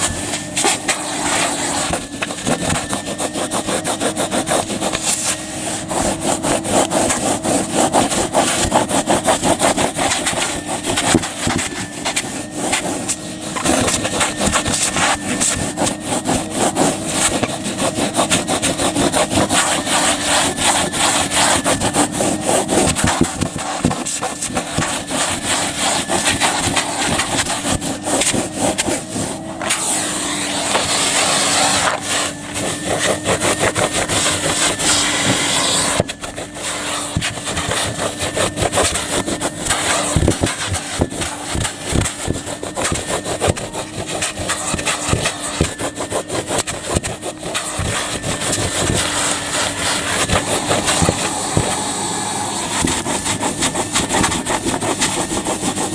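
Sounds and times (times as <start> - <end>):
vacuum cleaner motor hum: 0.0 - 55.9
vacuum nozzle scraping rug: 0.0 - 55.9.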